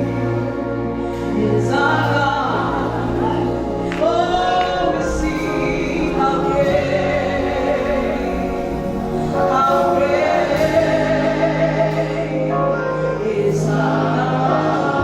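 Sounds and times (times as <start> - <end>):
choir singing gospel: 0.0 - 15.0
instrumental backing: 0.0 - 15.0.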